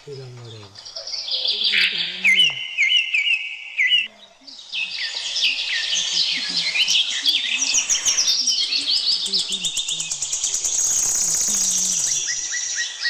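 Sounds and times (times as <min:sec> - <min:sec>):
chorus of chirping birds: 0:00.0 - 0:13.0.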